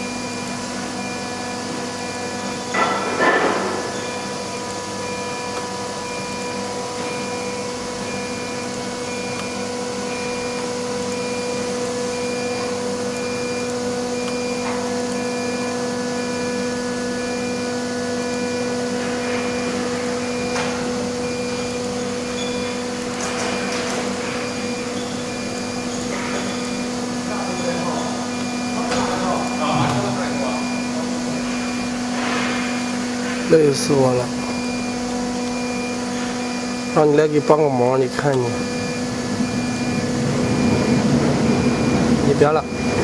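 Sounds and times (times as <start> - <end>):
cnc router humming: 0.0 - 43.0.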